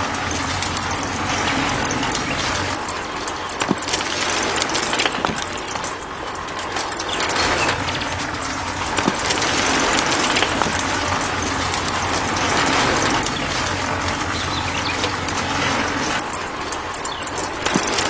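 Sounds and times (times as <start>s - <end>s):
low motor hum: 0.0s - 18.0s
sand and stones rattling: 0.0s - 18.0s.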